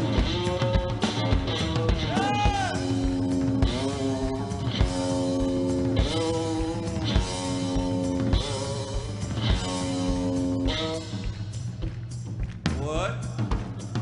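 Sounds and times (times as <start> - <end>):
slide guitar blues phrases: 0.0 - 11.3
drum kit beat: 0.0 - 14.0.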